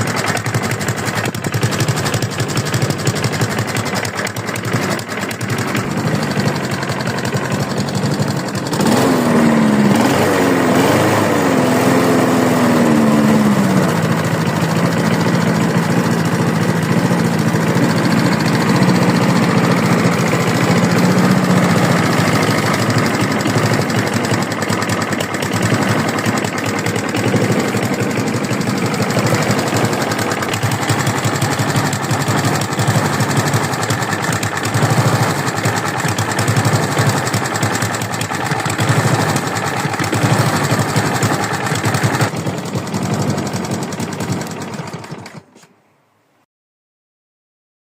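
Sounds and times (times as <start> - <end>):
lawn mower engine knocking: 0.0 - 45.7.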